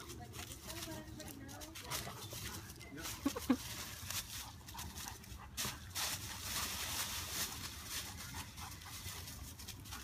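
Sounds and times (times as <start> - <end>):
dry leaves rustling and crunching: 0.0 - 10.0.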